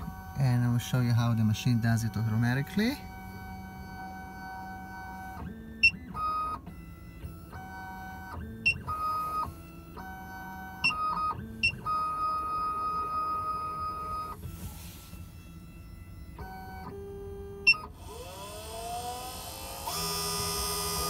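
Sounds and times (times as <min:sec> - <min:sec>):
stepper motors whining: 0:03.1 - 0:21.0.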